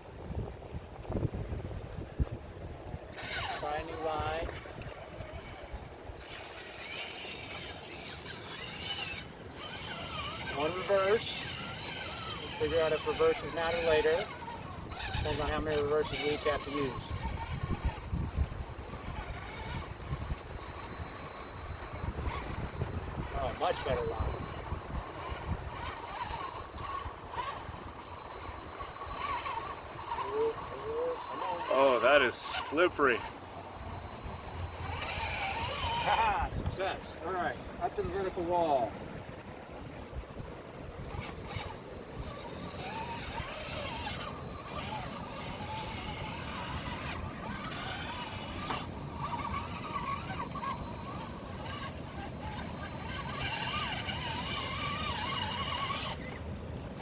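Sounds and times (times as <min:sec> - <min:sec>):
rc car motor whining: 0:03.1 - 0:57.0.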